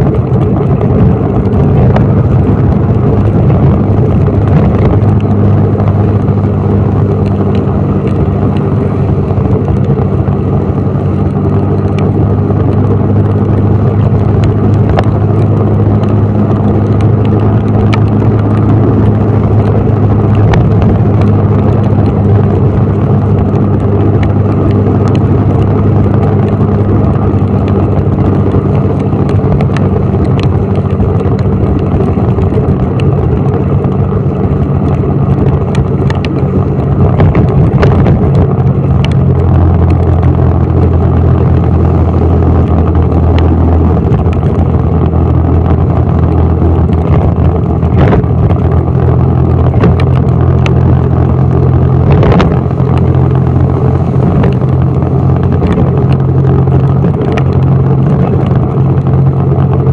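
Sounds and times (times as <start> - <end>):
road noise from wet road: 0.0 - 59.9
vehicle engine drone: 0.0 - 59.9.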